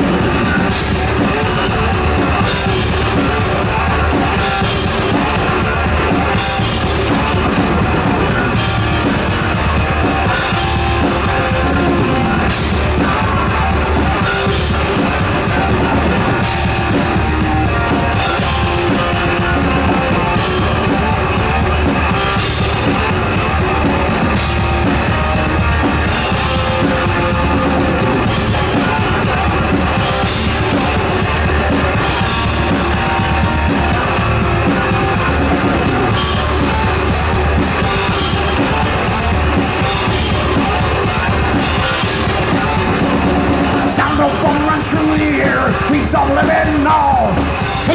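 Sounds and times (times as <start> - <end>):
bass guitar: 0.0 - 47.9
distorted electric guitars: 0.0 - 47.9
drum kit pounding: 0.0 - 47.9.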